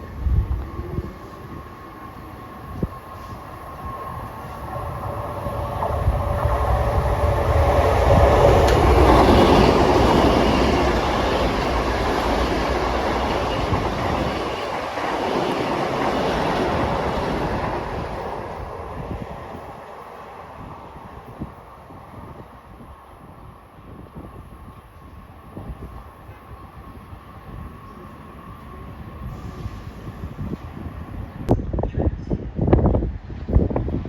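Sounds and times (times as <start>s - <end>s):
train passing on tracks: 0.0s - 34.0s.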